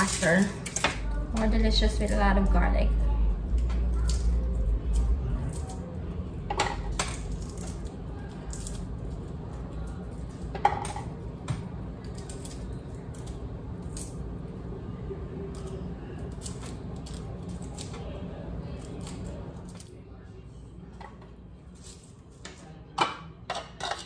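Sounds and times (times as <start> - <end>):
steady low hum: 0.0 - 23.8.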